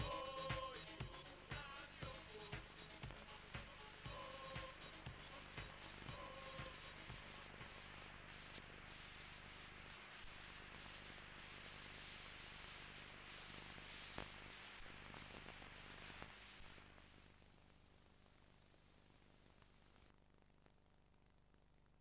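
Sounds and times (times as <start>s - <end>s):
tape hiss: 0.0s - 22.0s.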